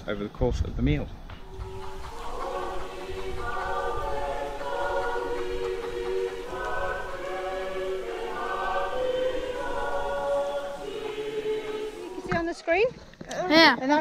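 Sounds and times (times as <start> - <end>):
congregation singing a hymn: 1.4 - 12.8.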